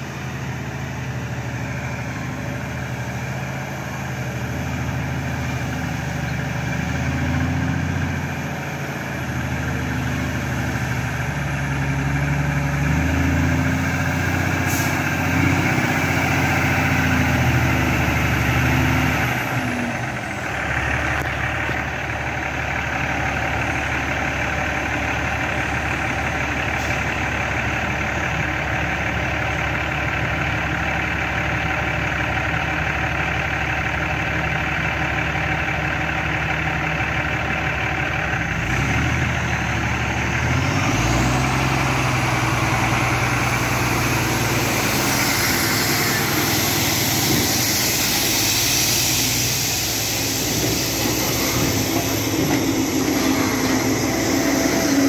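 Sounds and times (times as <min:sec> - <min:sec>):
diesel truck engine at low speed: 0:00.0 - 0:55.0.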